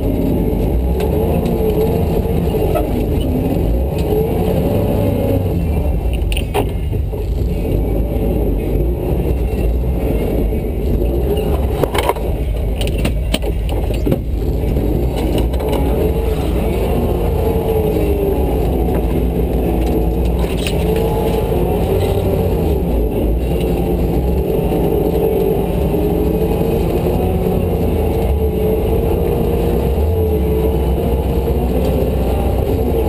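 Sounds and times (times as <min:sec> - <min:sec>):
engine running at low speed: 0:00.0 - 0:33.0.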